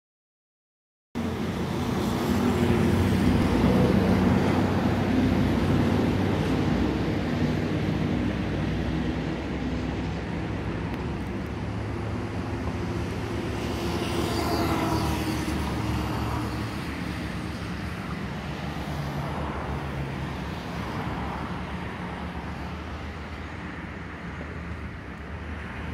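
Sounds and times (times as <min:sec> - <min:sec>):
jet engines rumbling: 0:01.2 - 0:25.9.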